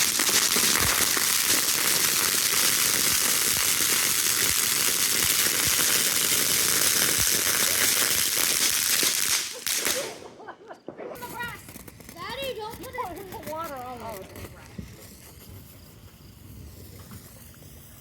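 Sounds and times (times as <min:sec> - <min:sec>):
firework hissing and crackling: 0:00.0 - 0:18.0.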